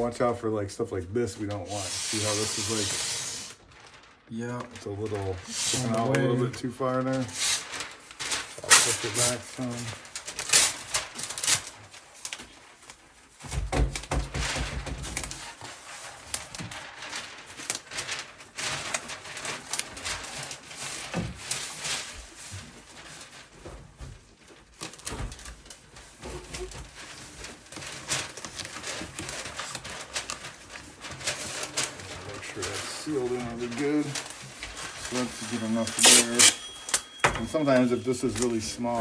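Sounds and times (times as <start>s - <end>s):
masking tape crinkling and rubbing: 0.0s - 39.0s.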